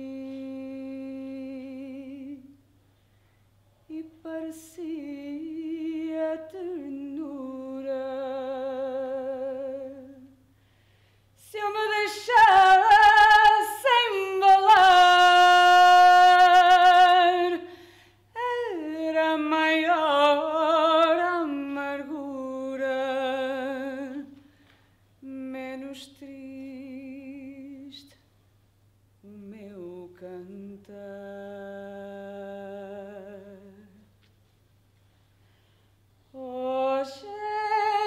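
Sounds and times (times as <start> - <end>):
woman singing unaccompanied: 0.0 - 2.6, 3.9 - 10.4, 11.4 - 24.4, 25.2 - 28.2, 29.2 - 34.1, 36.3 - 38.0.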